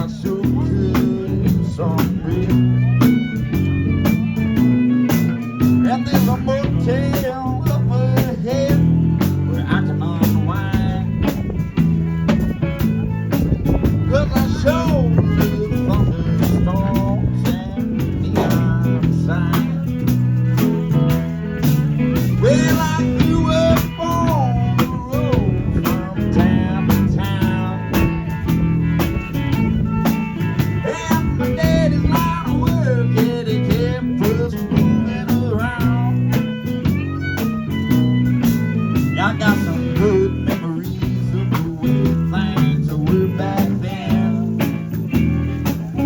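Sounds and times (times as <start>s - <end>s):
bass guitar: 0.0s - 46.0s
drum kit beat: 0.0s - 46.0s
lead guitar sliding notes: 0.0s - 46.0s.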